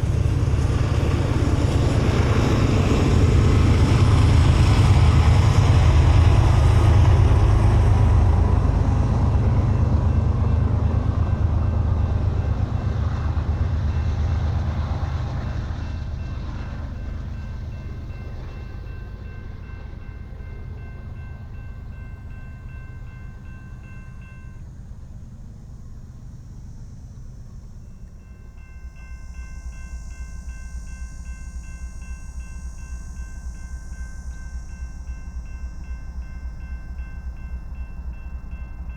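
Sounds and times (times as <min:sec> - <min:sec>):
crossing warning bell ringing: 0:00.0 - 0:25.4, 0:27.6 - 0:38.9
freight train rumbling: 0:00.0 - 0:38.9.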